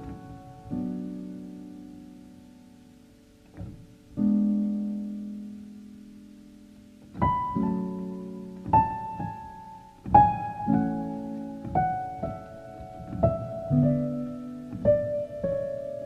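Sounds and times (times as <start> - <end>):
slow solo piano: 0.0 - 16.0.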